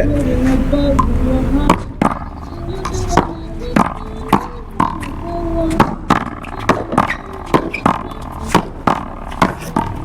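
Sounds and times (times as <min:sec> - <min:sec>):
rubber ball hitting paddles and wall: 0:01.7 - 0:10.0.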